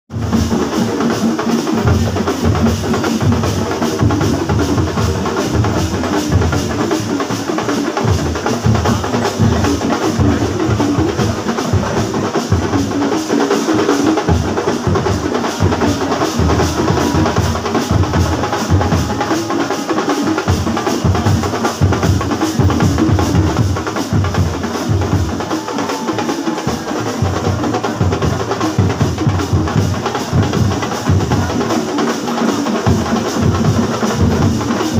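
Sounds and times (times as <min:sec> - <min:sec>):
fast dense drumming: 0:00.1 - 0:34.9.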